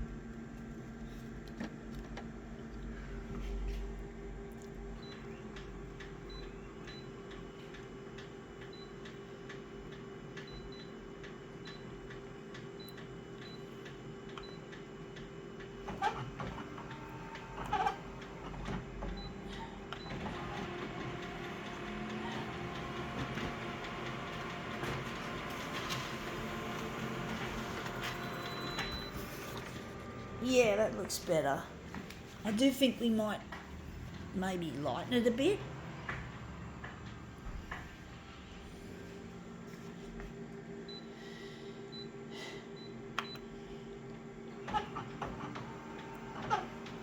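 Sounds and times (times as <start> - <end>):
photocopier humming and ticking: 0.0 - 47.0.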